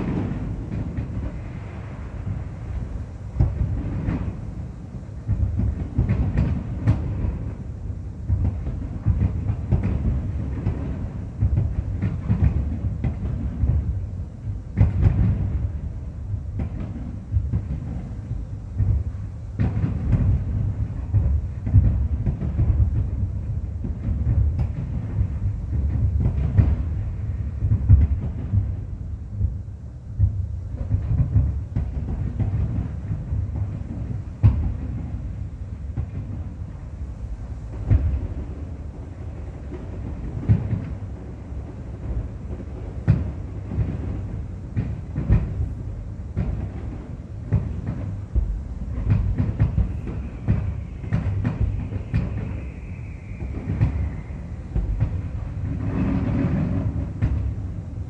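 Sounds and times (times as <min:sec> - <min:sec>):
sharp firework bangs: 0:00.0 - 0:04.6, 0:05.3 - 0:07.6, 0:08.3 - 0:14.0, 0:14.8 - 0:29.5, 0:30.2 - 0:36.8, 0:37.7 - 0:57.8
distant fireworks booming: 0:00.0 - 0:58.0
steady low rumble: 0:00.0 - 0:58.0.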